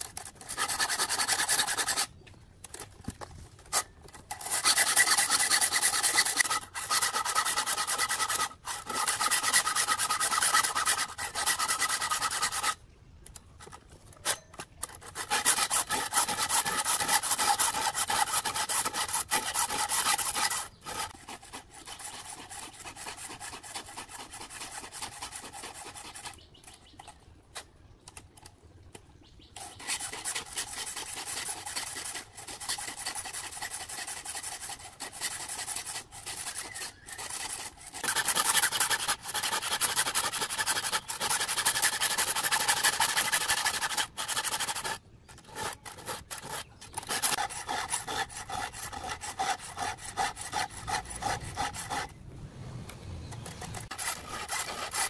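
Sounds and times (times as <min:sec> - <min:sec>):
file rasping on chainsaw chain: 0:00.1 - 0:02.1, 0:03.7 - 0:12.8, 0:14.3 - 0:26.4, 0:29.6 - 0:52.1, 0:53.3 - 0:55.0.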